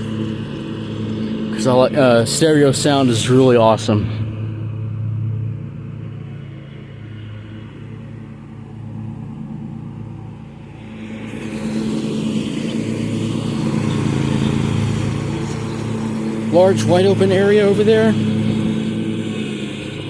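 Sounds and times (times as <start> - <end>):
riding mower engine humming: 0.0 - 20.0.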